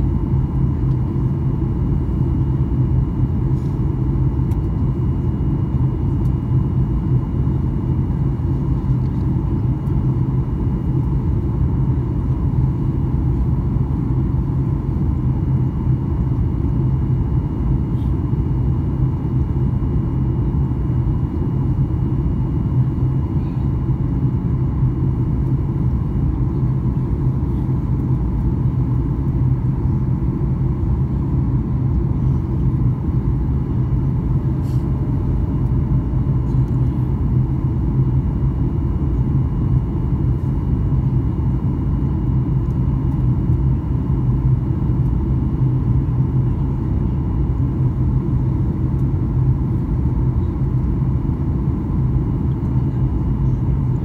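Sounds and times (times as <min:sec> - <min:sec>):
airplane cabin drone: 0:00.0 - 0:54.0.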